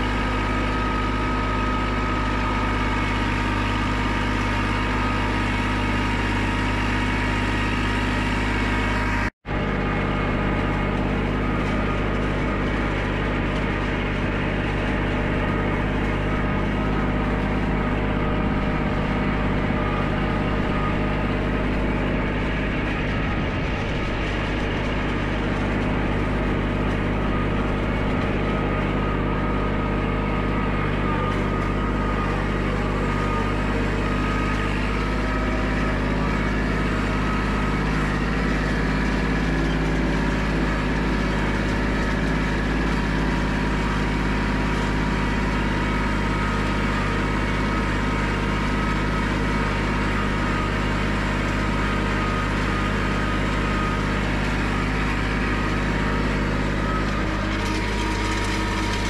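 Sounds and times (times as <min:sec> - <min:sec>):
tractor engine running steadily: 0:00.0 - 0:59.0.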